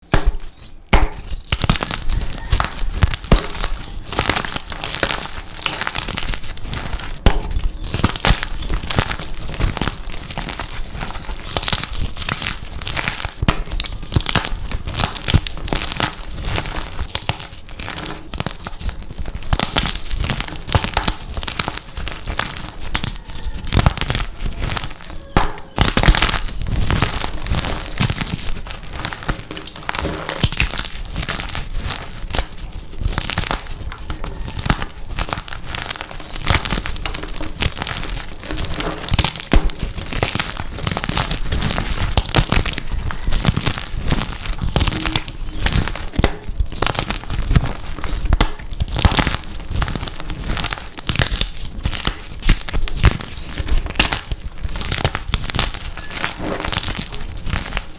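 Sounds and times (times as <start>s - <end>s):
chalk crunching and crackling: 0.0s - 57.9s.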